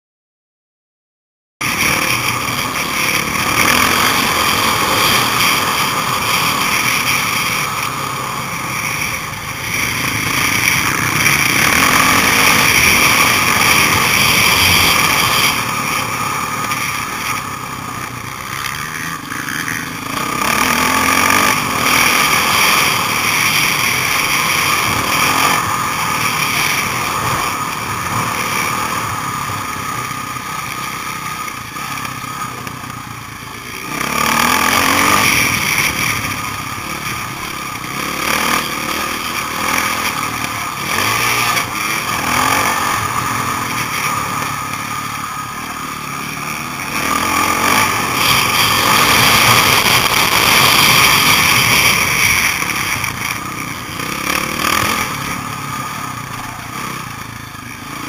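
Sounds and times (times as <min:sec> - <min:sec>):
dirt bike engine revving: 0:01.6 - 0:58.0.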